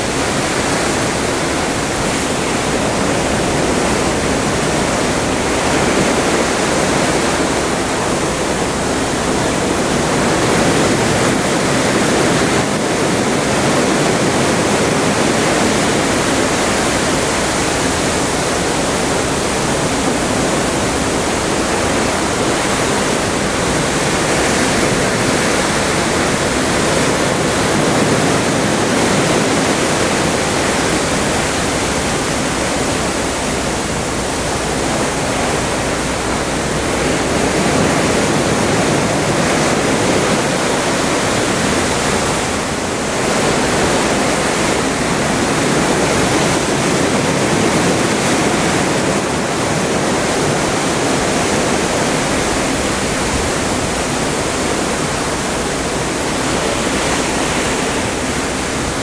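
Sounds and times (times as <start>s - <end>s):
seawater rushing along ship hull: 0.0s - 59.0s.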